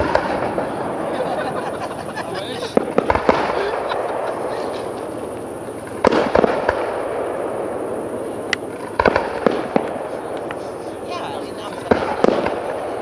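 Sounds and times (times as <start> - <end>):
firework shells bursting: 0.0 - 13.0
steady background hiss: 0.0 - 13.0.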